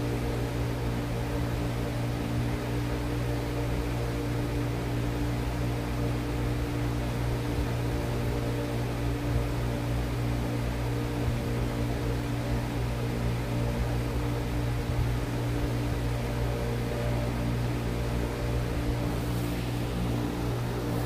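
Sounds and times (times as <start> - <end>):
machine hum with hiss: 0.0 - 21.0.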